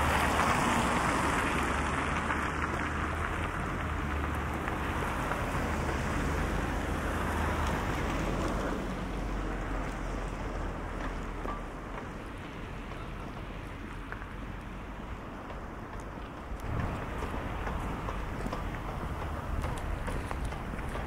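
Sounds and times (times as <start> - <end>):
street ambience: 0.0 - 21.0.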